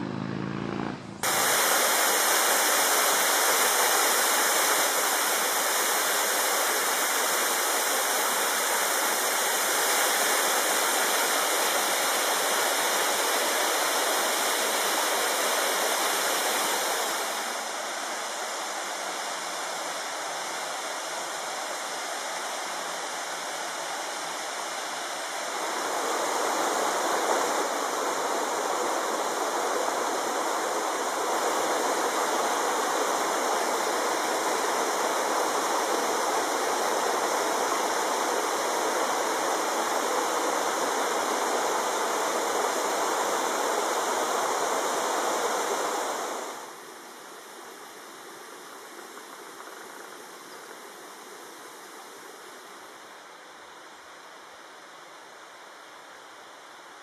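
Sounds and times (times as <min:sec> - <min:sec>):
waterfall and stream rushing: 0:01.2 - 0:57.0.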